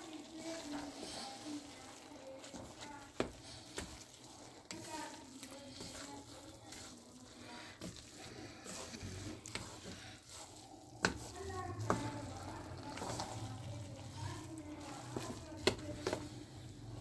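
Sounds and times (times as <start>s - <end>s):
soft sizzle: 0.0s - 17.0s
wooden spoon stirring in a pan: 0.0s - 17.0s.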